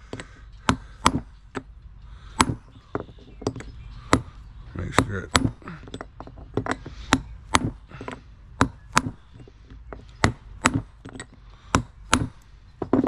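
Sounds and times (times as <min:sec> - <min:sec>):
hammer tapping on metal: 0:02.3 - 0:13.0.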